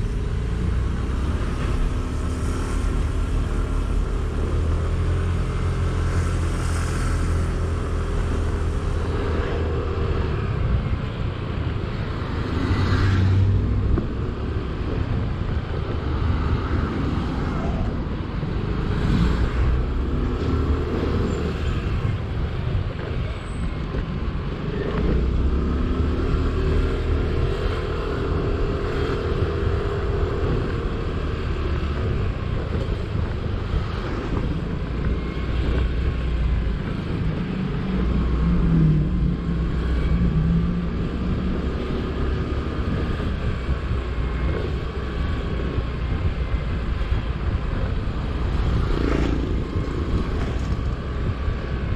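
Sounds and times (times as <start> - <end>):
traffic: 0.0 - 51.9
wind rumbling on microphone: 0.0 - 51.9.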